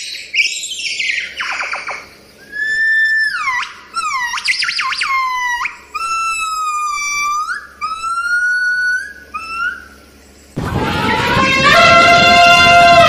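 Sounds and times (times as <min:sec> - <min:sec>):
high rising whistle-like calls: 0:00.0 - 0:13.0.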